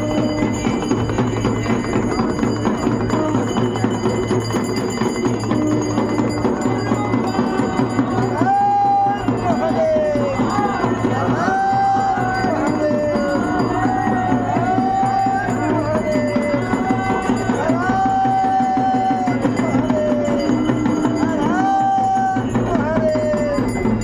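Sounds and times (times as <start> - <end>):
steady drumming: 0.0 - 24.0.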